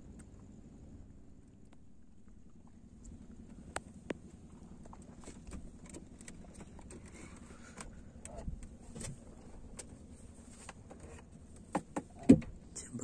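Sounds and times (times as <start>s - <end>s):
steady low hum: 0.0s - 13.0s
knocks and clicks in wooden boat: 1.7s - 12.8s.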